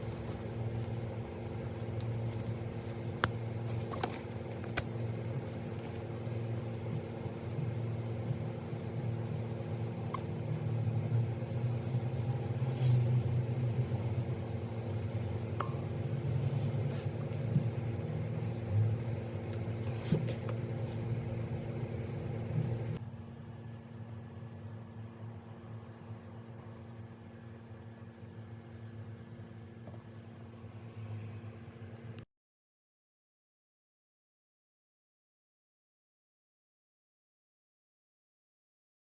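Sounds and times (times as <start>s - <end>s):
low electrical hum: 0.0s - 32.2s.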